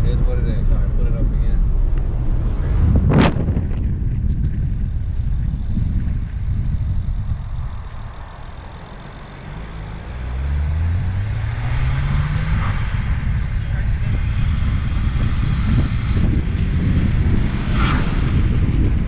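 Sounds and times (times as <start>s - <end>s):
car engine rumbling: 0.0s - 19.0s
road noise: 0.0s - 19.0s.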